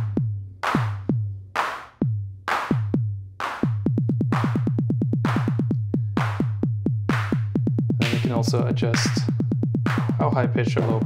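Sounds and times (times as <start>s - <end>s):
drum machine claps: 0.0s - 11.0s
kick drum with falling pitch: 2.0s - 11.0s.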